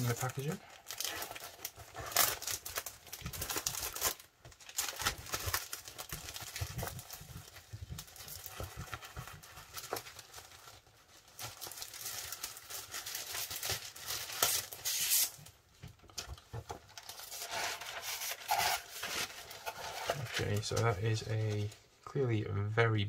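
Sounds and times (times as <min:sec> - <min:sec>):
plastic bags and paper crinkling: 0:00.0 - 0:21.9.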